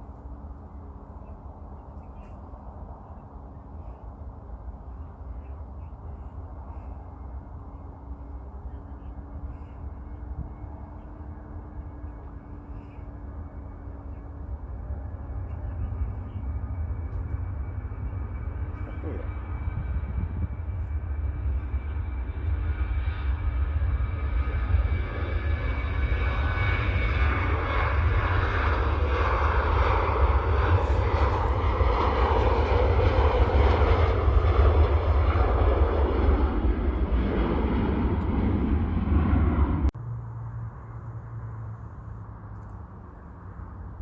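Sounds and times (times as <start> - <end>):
jet airliner engine rumble: 0.0 - 44.0.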